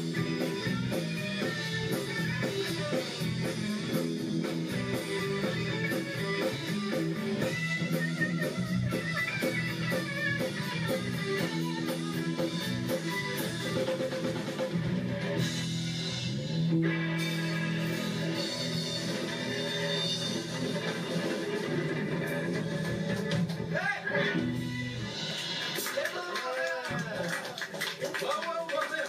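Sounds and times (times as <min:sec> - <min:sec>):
bass: 0:00.0 - 0:26.0
electric guitars: 0:00.0 - 0:27.8
drums: 0:00.0 - 0:29.0.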